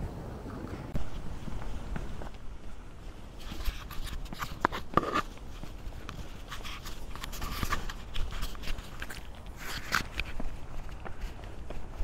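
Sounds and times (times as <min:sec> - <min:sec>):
footsteps walking: 0:01.0 - 0:12.0.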